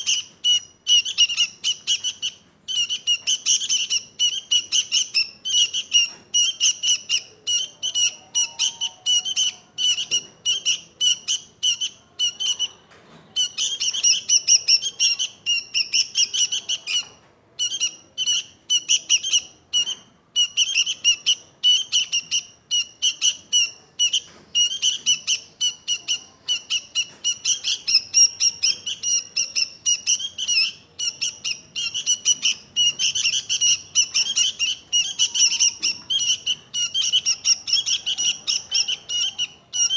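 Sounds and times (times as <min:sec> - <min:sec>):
bulbul chirping: 0:00.0 - 0:12.8, 0:13.4 - 0:39.9.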